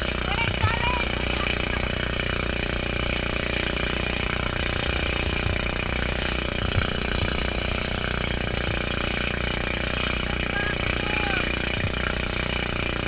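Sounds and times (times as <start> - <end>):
motorboat engine running: 0.0 - 13.0
water rushing and spray: 0.0 - 13.0.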